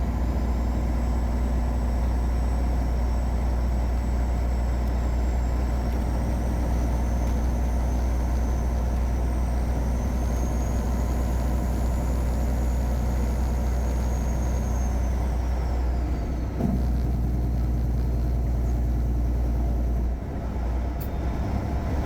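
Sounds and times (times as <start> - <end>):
diesel truck engine droning: 0.0 - 22.0.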